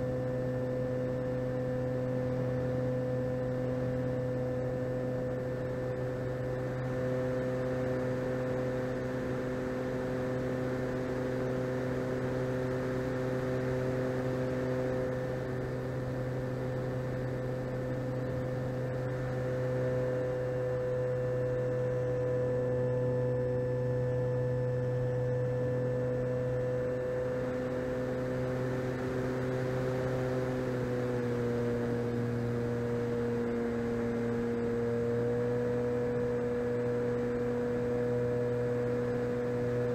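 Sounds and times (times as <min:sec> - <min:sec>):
electric motor and propeller droning: 0:00.0 - 0:39.9.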